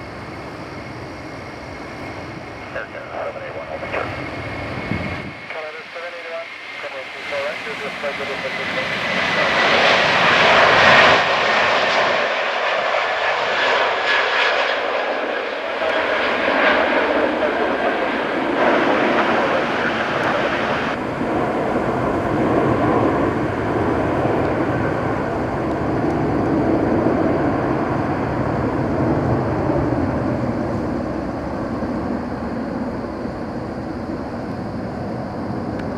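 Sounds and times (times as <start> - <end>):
jet airliner engines roaring: 0.0 - 35.9.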